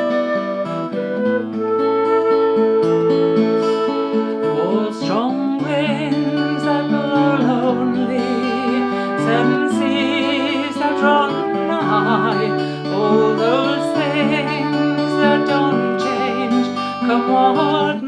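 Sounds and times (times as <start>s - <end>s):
woman singing: 0.0s - 1.2s, 1.9s - 18.0s
acoustic guitar: 0.0s - 18.0s
flute: 0.0s - 18.0s.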